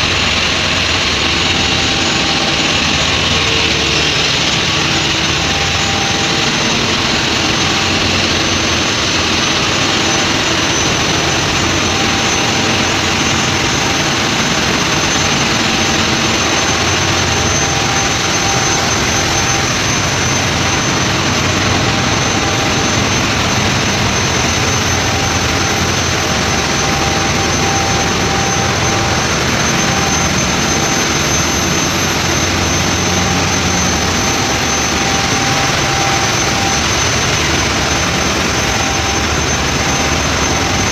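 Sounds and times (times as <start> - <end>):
diesel engines running: 0.0 - 40.9
high-pitched machinery whine: 0.0 - 40.9.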